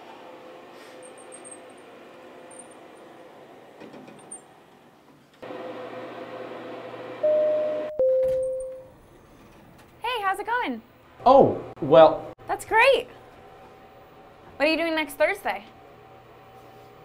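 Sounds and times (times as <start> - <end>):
elevator humming: 0.0 - 17.0.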